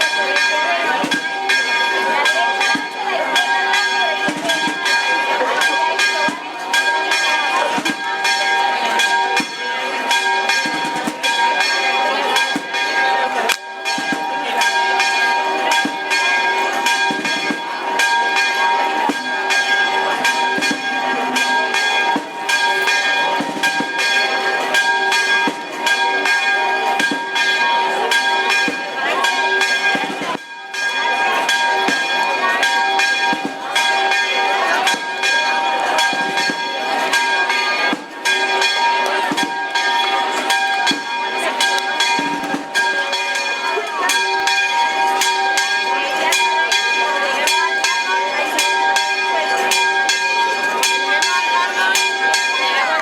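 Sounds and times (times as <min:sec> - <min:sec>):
church bells ringing: 0:00.0 - 0:53.0.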